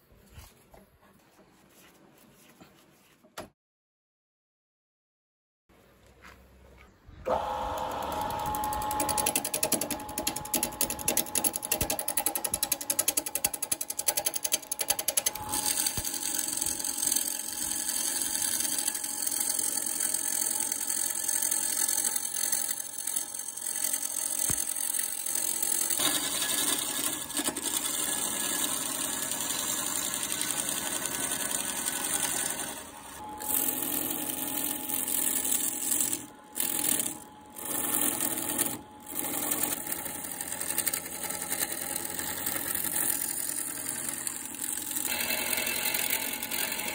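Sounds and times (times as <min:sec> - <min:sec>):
gouge scraping spinning wood: 0:07.3 - 0:46.9
wood lathe gouge knocking: 0:07.3 - 0:46.9.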